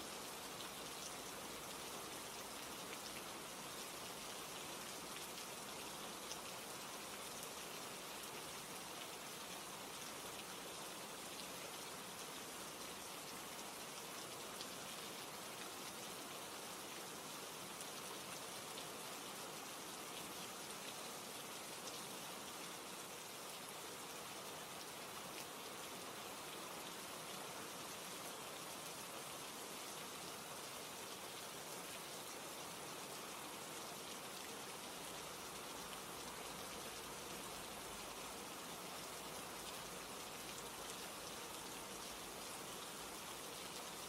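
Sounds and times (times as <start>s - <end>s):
rain hiss: 0.0s - 44.0s.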